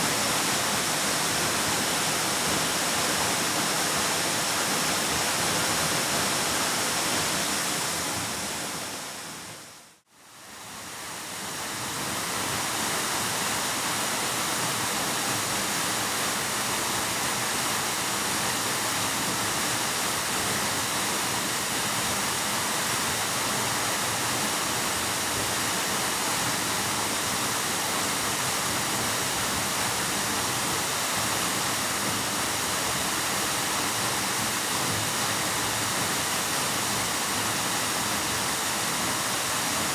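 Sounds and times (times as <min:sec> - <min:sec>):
waterfall roaring: 0:00.0 - 0:09.6, 0:11.9 - 0:39.9.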